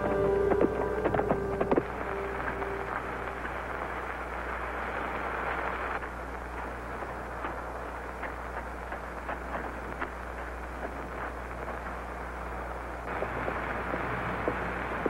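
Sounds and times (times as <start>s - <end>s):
burning fuse hissing and crackling: 0.0s - 15.0s.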